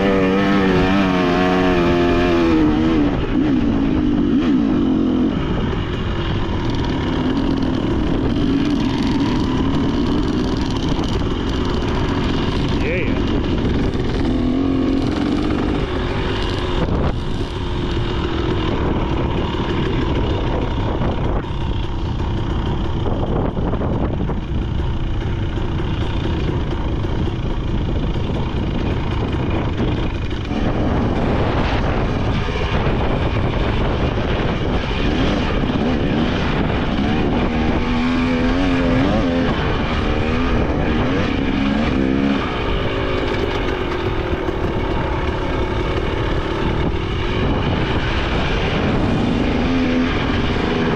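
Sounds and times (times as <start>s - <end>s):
dirt bike engine revving: 0.0s - 50.9s
riding noise rush: 0.0s - 50.9s.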